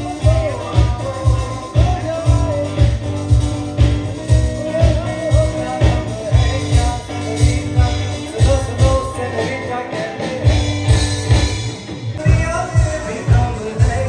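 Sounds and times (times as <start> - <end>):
heavy kick drum beat: 0.0 - 9.2, 10.4 - 14.0
man singing into a microphone: 0.0 - 11.2, 12.2 - 14.0
drum kit: 0.0 - 14.0.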